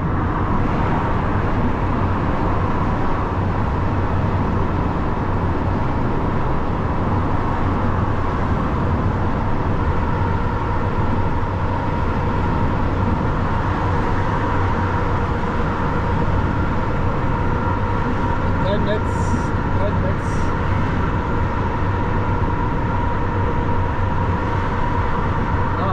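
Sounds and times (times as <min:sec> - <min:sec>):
lorry engine and road noise: 0:00.0 - 0:25.9.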